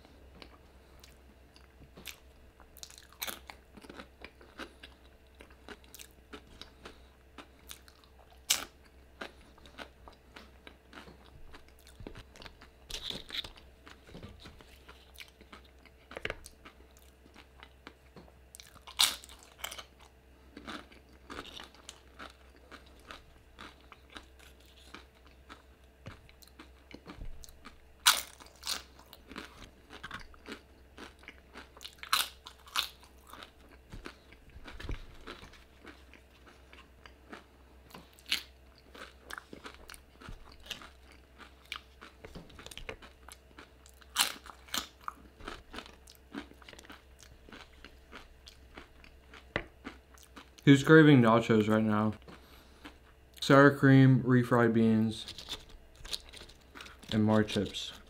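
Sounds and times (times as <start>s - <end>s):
chips being bitten and chewed: 1.0s - 50.7s, 55.2s - 58.0s.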